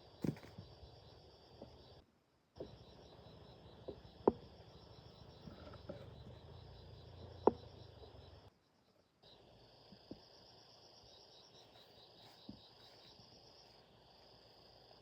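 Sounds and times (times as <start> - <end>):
insects chirring: 0.0 - 2.0, 2.6 - 15.0.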